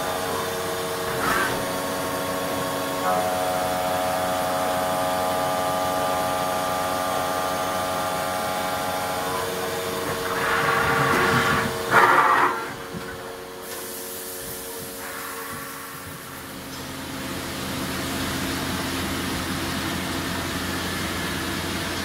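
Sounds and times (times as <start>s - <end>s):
machining center humming: 0.0s - 22.0s.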